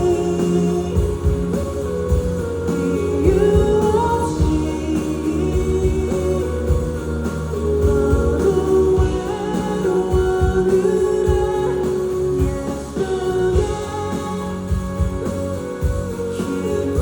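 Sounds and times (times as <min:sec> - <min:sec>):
band accompaniment: 0:00.0 - 0:17.0
man singing pop ballad: 0:00.0 - 0:17.0.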